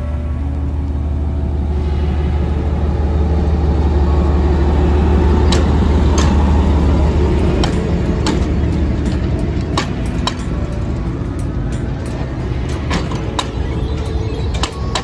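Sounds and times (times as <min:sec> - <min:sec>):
diesel locomotive engine drone: 0:00.0 - 0:15.0
train wheels clicking on track: 0:00.9 - 0:15.0.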